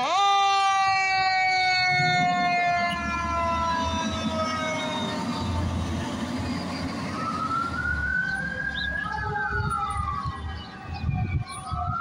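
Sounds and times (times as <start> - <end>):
fire engine siren wailing: 0.0 - 12.0
traffic: 0.0 - 12.0
engine rumble: 1.8 - 12.0.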